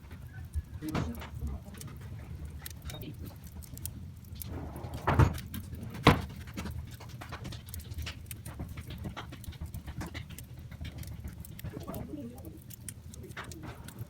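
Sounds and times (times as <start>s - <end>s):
loud pops from fire: 0.0s - 14.0s
wood fire crackling: 0.0s - 14.0s.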